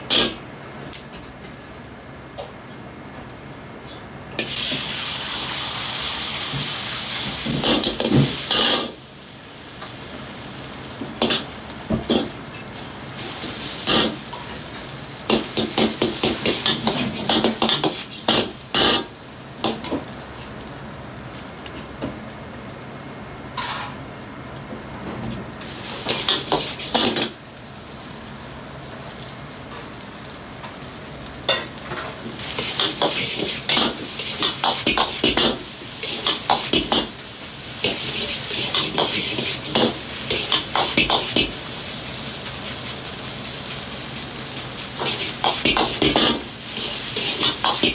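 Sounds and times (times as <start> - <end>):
rice sizzling: 0.0 - 1.9, 4.2 - 47.9.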